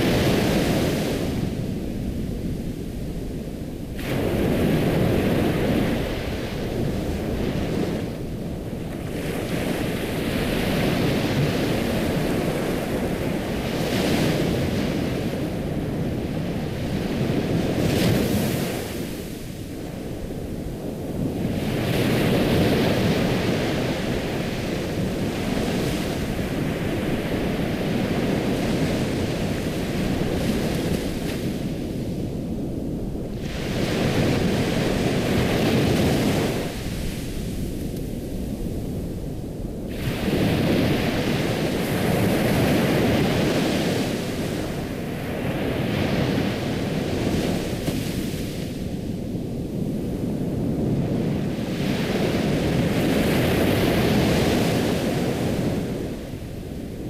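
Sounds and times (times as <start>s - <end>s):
ocean waves breaking: 0.0s - 32.2s, 33.2s - 57.0s.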